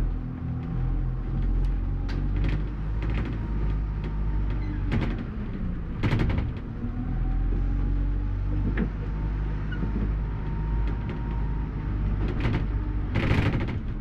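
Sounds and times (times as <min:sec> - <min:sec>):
bus engine droning: 0:00.0 - 0:14.0
rattles and knocks: 0:00.6 - 0:07.8, 0:08.4 - 0:14.0.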